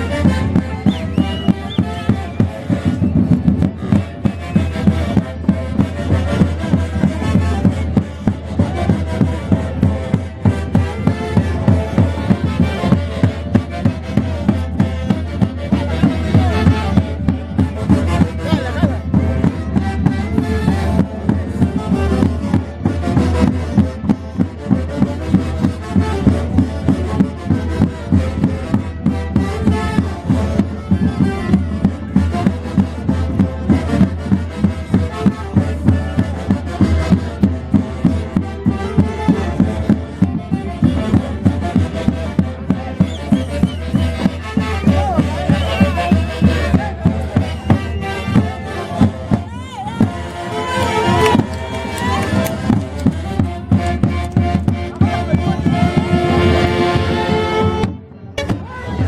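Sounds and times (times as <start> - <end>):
folk orchestra playing: 0.0 - 59.0
steady driving beat: 0.0 - 59.0
wind instruments: 0.0 - 59.0.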